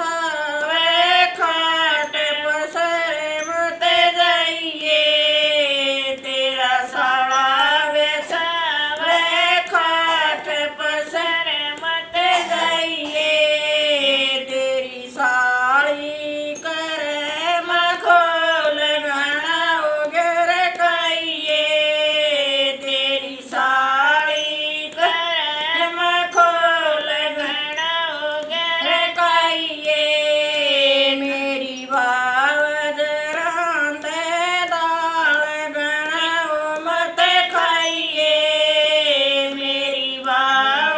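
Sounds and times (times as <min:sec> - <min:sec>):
two women singing: 0:00.0 - 0:40.9.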